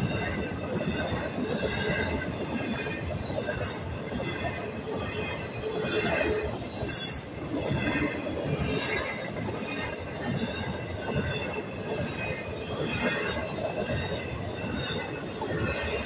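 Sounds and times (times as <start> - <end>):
steel wheels on rails: 0.0 - 16.0.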